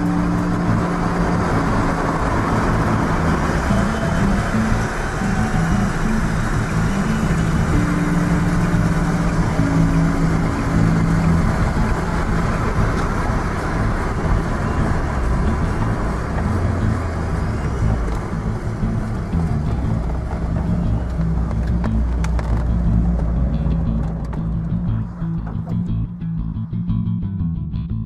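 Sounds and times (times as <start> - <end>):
tyre noise: 0.0 - 26.7
car engine drone: 0.0 - 28.0
deep rumble: 0.0 - 28.0.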